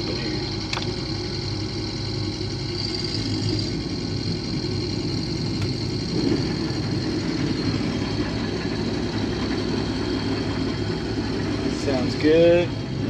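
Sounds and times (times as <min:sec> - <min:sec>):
combine harvester engine droning: 0:00.0 - 0:13.0
faint high whine: 0:00.0 - 0:13.0.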